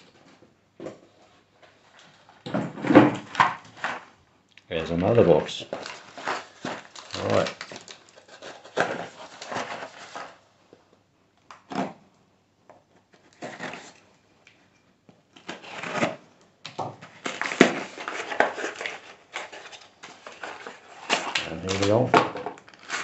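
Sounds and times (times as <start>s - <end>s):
plastic wrap and cardboard rustling: 0.0s - 10.8s, 12.8s - 23.0s.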